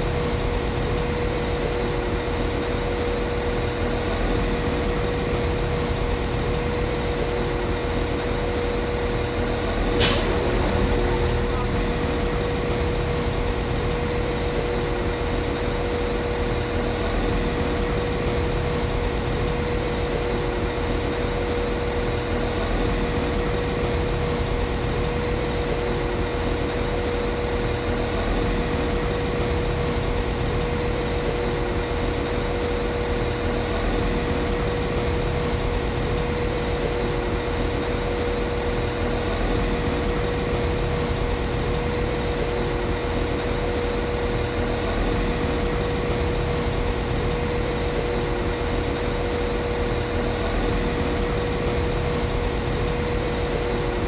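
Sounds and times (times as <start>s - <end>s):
constant high hum: 0.0s - 54.0s.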